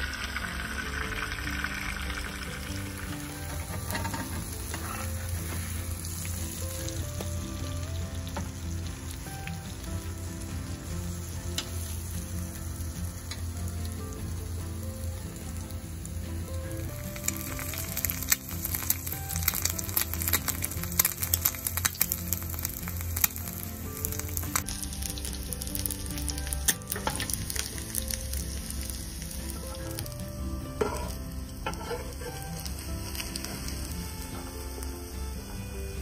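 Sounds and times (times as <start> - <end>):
bread sizzling in a pan: 0.0 - 36.0
soft background music: 0.0 - 36.0.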